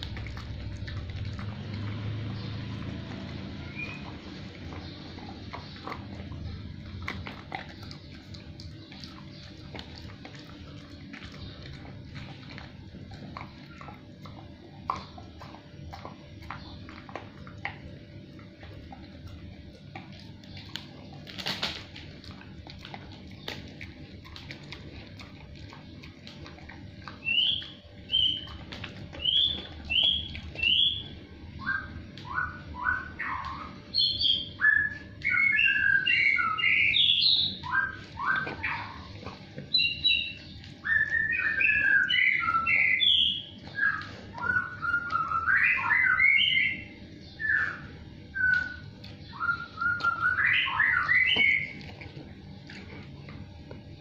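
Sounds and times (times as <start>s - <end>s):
dog crunching a snack: 0.0s - 54.0s.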